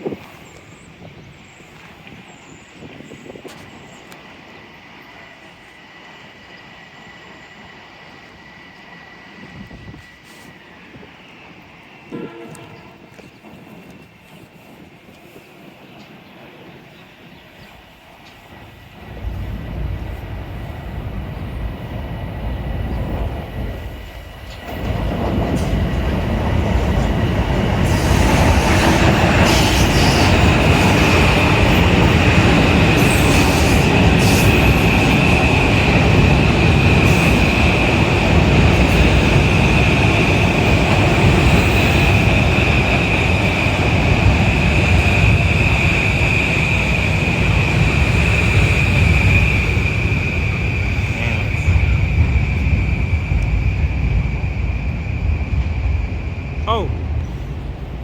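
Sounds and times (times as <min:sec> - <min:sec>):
wind buffeting microphone: 0:00.0 - 0:05.1, 0:07.6 - 0:58.0
train passing rumble: 0:00.0 - 0:58.0.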